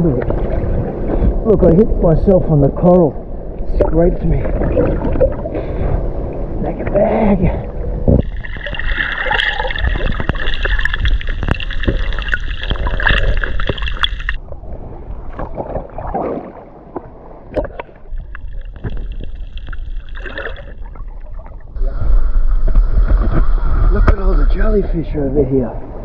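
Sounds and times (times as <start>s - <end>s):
water gurgling and sloshing: 0.0s - 26.0s.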